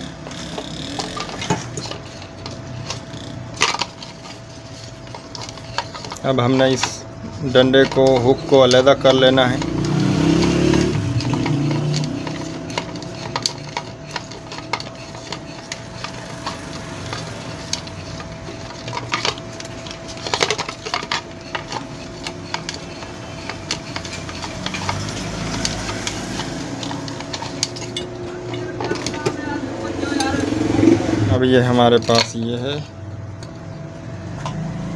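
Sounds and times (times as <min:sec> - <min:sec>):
small metal clicks and rattles: 0:00.0 - 0:31.0, 0:31.6 - 0:33.6.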